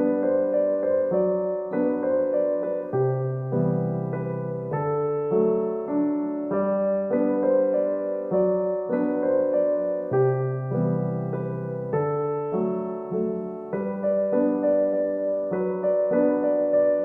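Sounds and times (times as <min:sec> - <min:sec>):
slow gentle electric piano music: 0:00.0 - 0:17.0.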